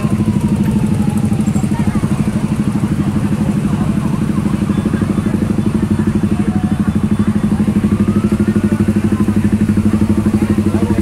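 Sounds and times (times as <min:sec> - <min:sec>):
faint crowd voices: 0:00.0 - 0:11.0
motorcycle engines idling: 0:00.0 - 0:11.0.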